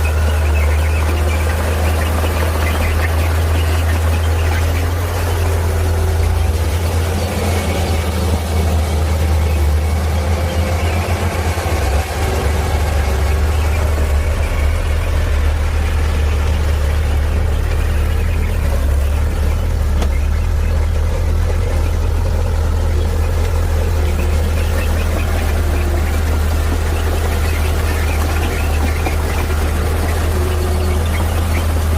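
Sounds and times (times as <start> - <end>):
heavy diesel engine rumbling: 0.0 - 31.9.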